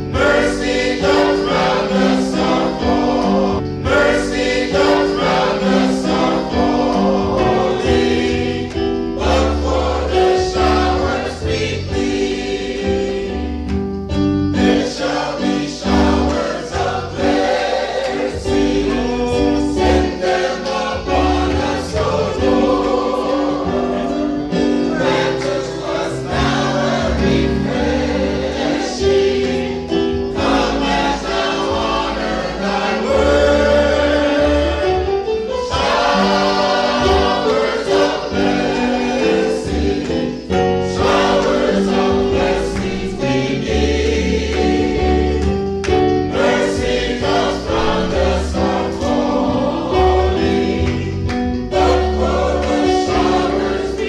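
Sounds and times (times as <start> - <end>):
choir singing gospel: 0.0 - 54.0.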